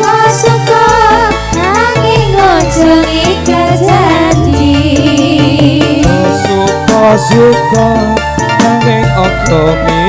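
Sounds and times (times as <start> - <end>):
keyboard melody: 0.0 - 10.0
live band music: 0.0 - 10.0
hand drums: 0.9 - 10.0.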